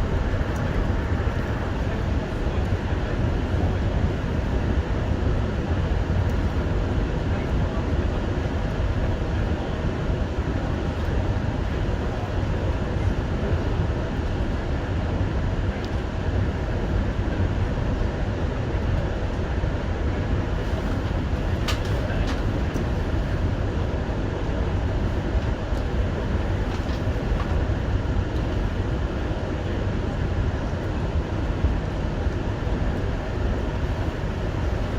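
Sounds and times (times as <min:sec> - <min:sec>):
train wheels and motors rumbling: 0:00.0 - 0:34.9.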